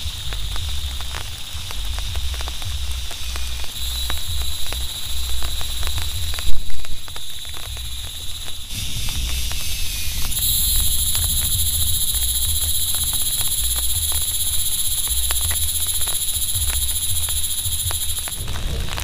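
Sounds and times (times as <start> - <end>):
low rumble: 0.0 - 19.0
raindrop ticks: 0.0 - 19.0.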